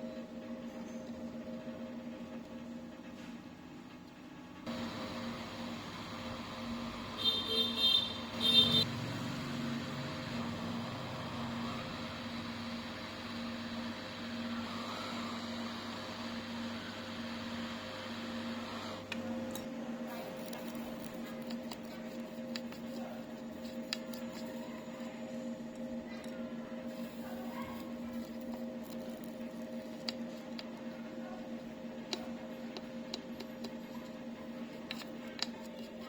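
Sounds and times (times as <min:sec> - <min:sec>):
electronic equipment humming: 0:04.7 - 0:36.0.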